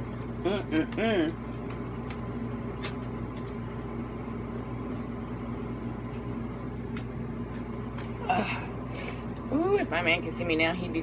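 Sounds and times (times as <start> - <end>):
appliance fan humming: 0.0 - 11.0.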